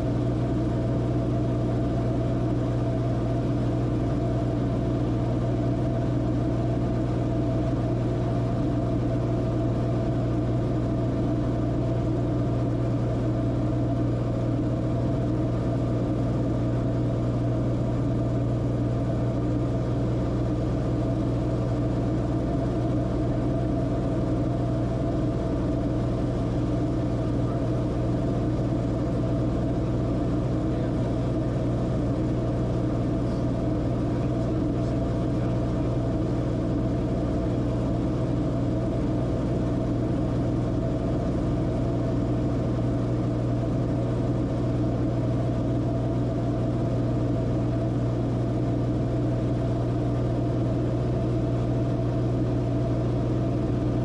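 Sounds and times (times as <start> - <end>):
airplane engine drone in cabin: 0.0 - 54.0.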